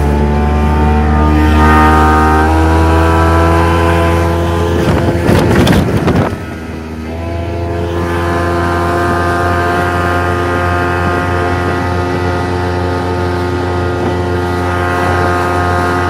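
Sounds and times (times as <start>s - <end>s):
outboard motor running: 0.0s - 16.0s
rush of wind and water: 0.0s - 16.0s.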